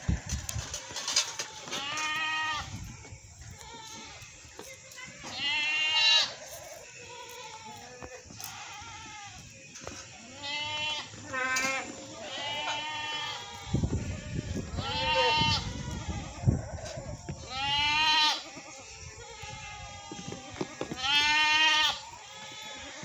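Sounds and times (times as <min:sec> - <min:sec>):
goats bleating: 0:00.1 - 0:23.0.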